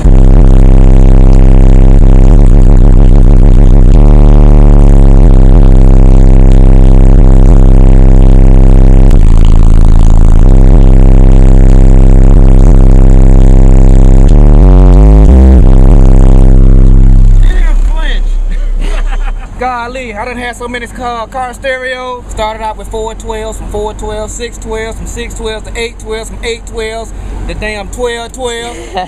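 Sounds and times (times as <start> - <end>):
distorted bass-heavy music: 0.0 - 29.0.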